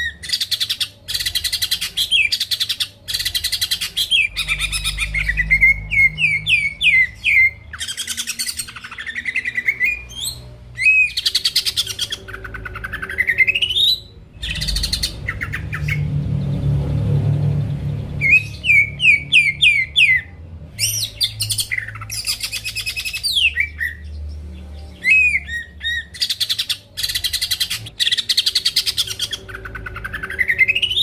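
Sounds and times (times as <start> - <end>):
songbird singing trills and whistles: 0.0 - 16.2, 18.1 - 31.0.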